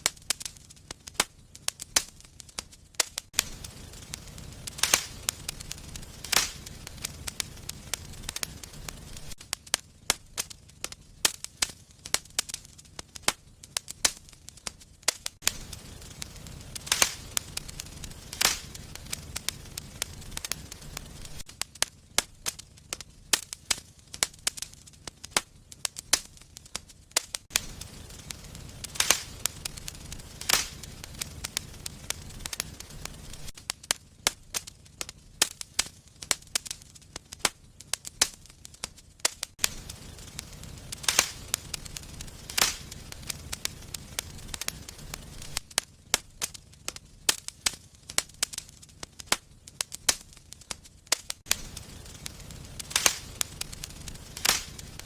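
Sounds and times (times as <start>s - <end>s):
fire crackling and popping: 0.0s - 55.0s
low rumble of flame: 0.0s - 55.0s.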